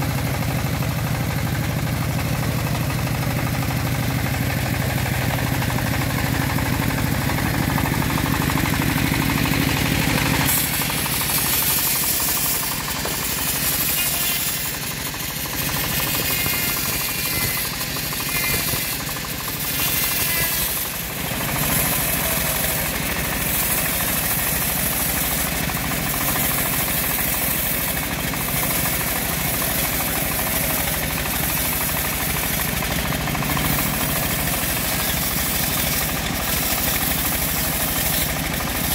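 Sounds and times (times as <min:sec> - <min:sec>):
bandsaw mill engine humming: 0:00.0 - 0:38.9
band blade sawing through log: 0:07.6 - 0:38.9.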